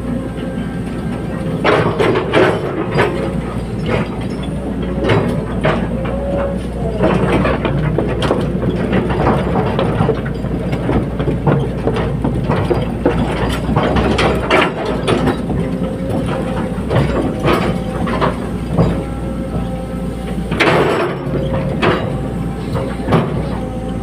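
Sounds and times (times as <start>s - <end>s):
excavator engine running: 0.0s - 24.0s
metallic clanks and knocks: 0.0s - 24.0s.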